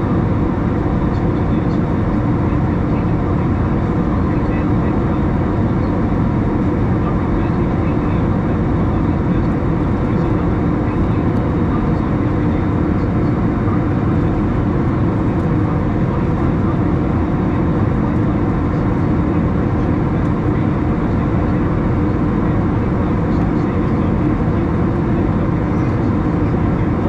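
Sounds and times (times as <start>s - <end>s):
jet engines droning: 0.0s - 27.0s.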